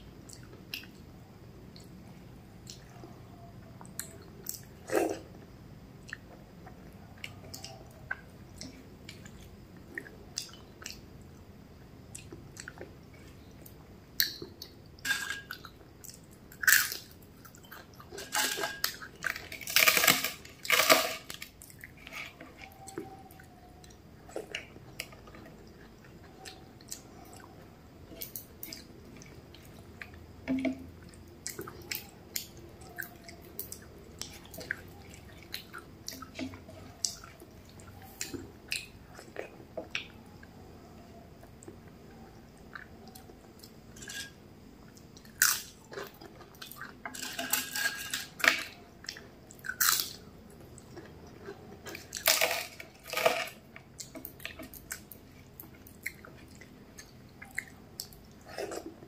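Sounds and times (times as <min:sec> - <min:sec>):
chewing: 0:01.7 - 0:11.4, 0:12.1 - 0:14.8, 0:15.4 - 0:30.3, 0:30.9 - 0:59.0.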